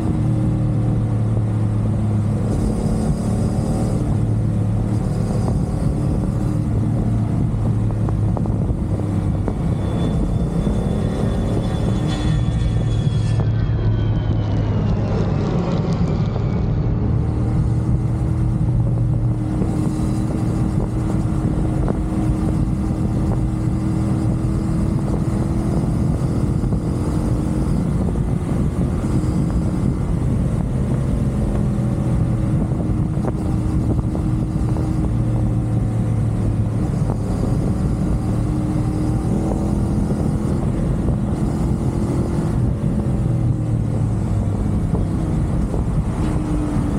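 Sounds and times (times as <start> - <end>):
motorcycle engine cruising: 0.0 - 46.9
road noise: 0.0 - 46.9
wind noise: 0.0 - 46.9.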